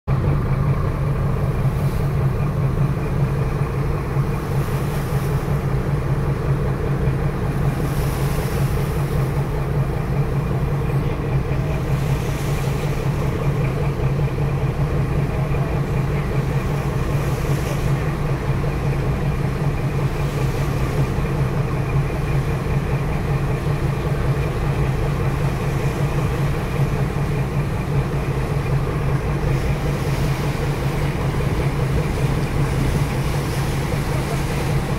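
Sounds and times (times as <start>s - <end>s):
diesel engines droning: 0.1s - 34.9s
wake water rushing: 0.1s - 34.9s.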